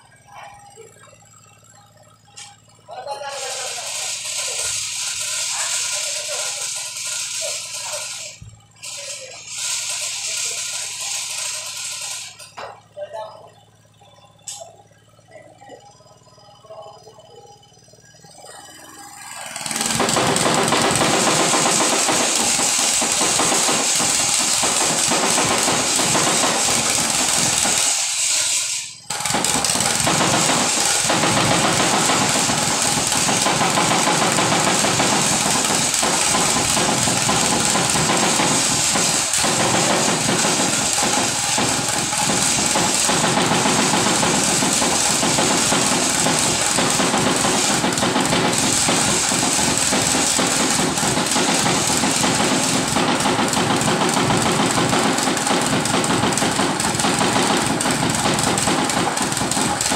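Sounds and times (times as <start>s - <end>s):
piling machine engine running: 0.0s - 59.9s.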